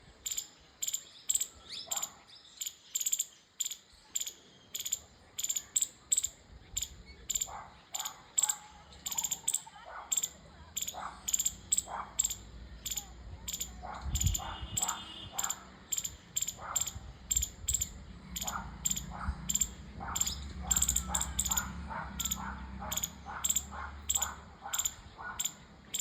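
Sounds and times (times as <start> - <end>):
squirrel chirping: 0.2 - 26.0
faint low animal calls: 4.1 - 26.0.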